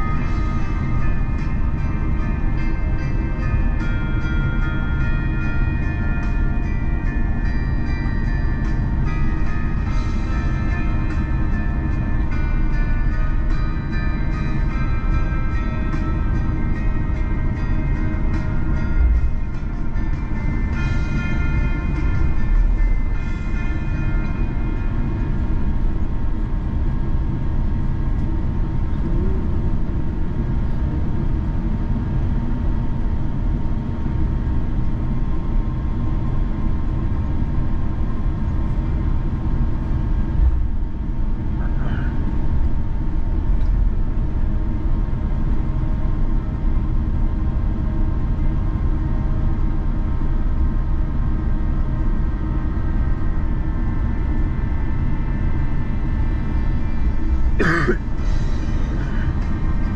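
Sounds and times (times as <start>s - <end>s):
faint jet engine whine: 0.0s - 59.9s
low rumble of wheels: 0.0s - 59.9s.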